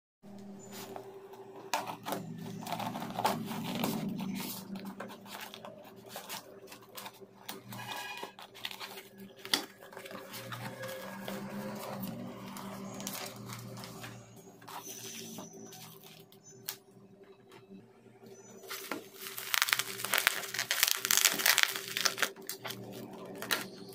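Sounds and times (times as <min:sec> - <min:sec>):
paper packing rustling: 0:01.6 - 0:16.4, 0:18.6 - 0:23.9.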